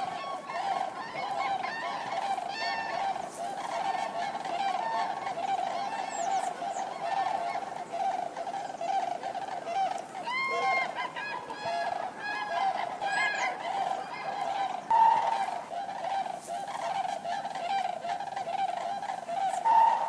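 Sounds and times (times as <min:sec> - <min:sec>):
cranes trumpeting calls: 0:00.0 - 0:20.0.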